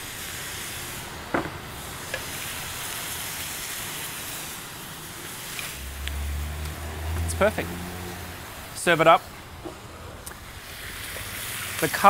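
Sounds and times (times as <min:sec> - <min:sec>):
food sizzling in a wok: 0:00.0 - 0:08.8, 0:10.4 - 0:12.0.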